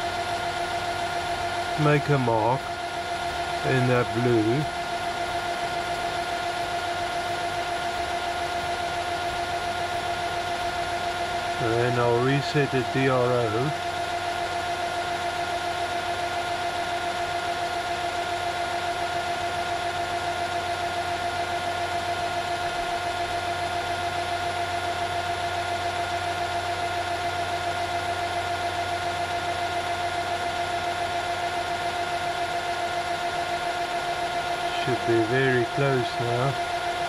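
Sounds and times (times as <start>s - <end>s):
metal lathe motor whine: 0.0s - 37.0s.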